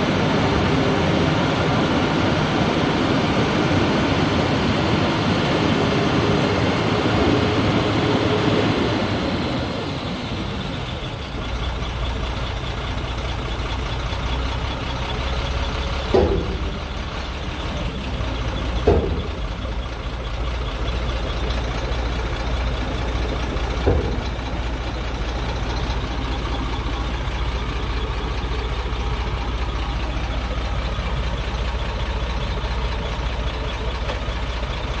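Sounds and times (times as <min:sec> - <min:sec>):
diesel truck engine idling: 0:00.0 - 0:35.0
truck clunks: 0:00.0 - 0:35.0.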